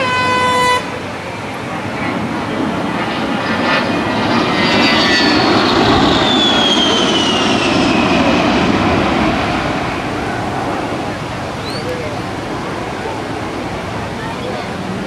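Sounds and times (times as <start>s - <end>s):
jet flying past: 0.8s - 15.0s.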